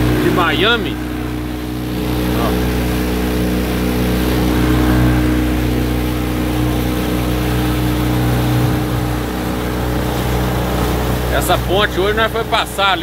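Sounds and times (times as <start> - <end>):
outboard motor running: 0.0 - 13.0
water rushing past hull: 0.0 - 13.0.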